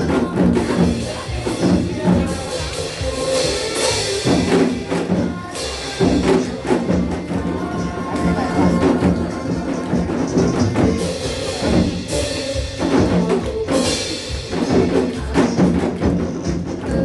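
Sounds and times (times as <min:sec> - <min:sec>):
recorded pop song: 0:00.0 - 0:17.0.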